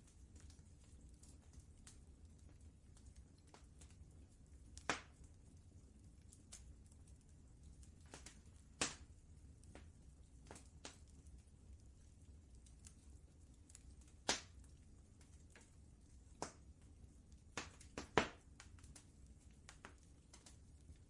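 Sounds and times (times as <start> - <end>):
faint low rumble: 0.0 - 21.0
wood fire crackling: 0.0 - 21.0.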